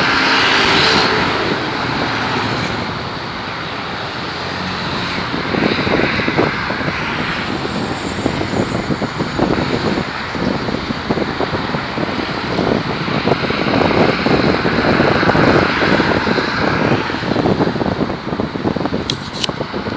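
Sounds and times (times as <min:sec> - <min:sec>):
highway traffic rushing: 0:00.0 - 0:19.9.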